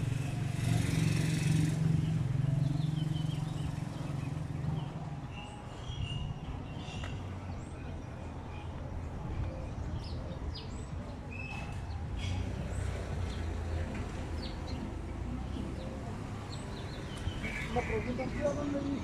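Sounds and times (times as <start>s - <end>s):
birds chirping: 0.0s - 19.0s
city street rumble: 0.0s - 19.0s.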